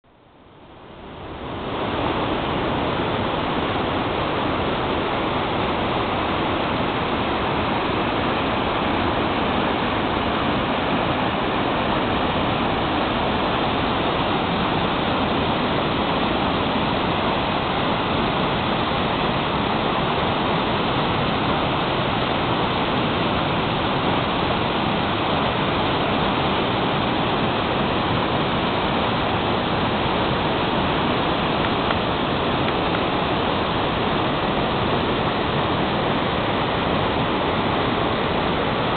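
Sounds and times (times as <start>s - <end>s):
river rushing over rapids: 0.1s - 38.9s.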